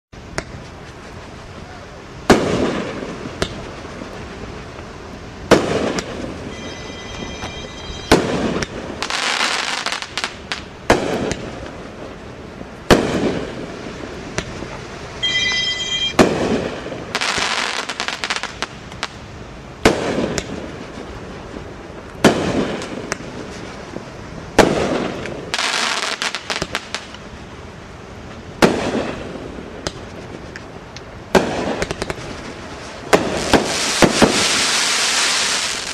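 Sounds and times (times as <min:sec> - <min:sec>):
firework bangs: 0:00.2 - 0:27.7, 0:28.3 - 0:35.9
firework crackling and hissing: 0:00.2 - 0:35.9.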